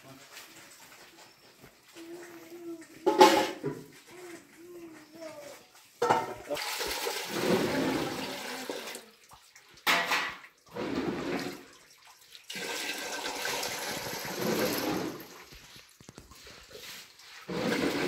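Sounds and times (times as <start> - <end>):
water pouring and splashing: 0.0 - 18.0.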